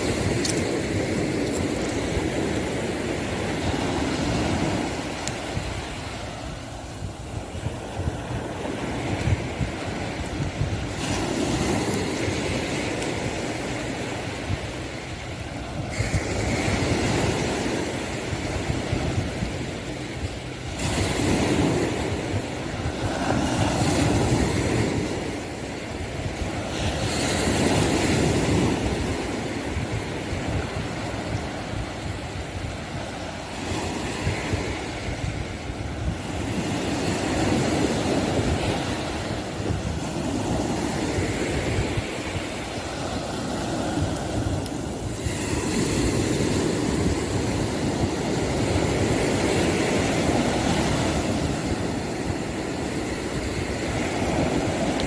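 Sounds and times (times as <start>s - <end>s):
low surf rumble: 0.0s - 55.0s
sea waves breaking: 0.0s - 55.0s.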